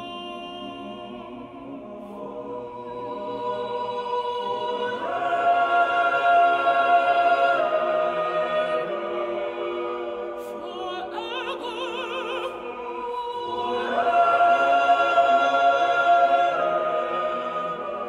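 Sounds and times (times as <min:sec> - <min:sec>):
choir singing chords: 0:00.0 - 0:18.0.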